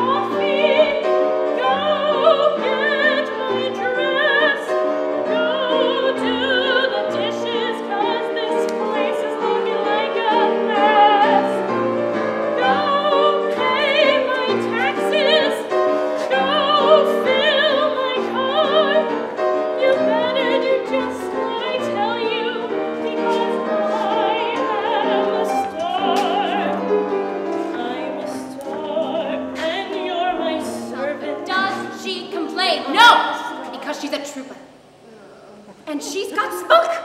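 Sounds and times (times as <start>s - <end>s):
woman singing operatically: 0.0s - 11.8s, 12.5s - 26.9s, 27.7s - 34.5s, 35.9s - 37.0s
piano: 0.0s - 37.0s.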